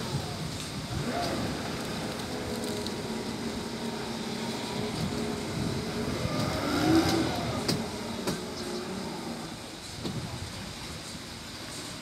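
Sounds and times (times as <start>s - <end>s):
water noise: 0.0s - 12.0s
wind noise: 0.0s - 12.0s.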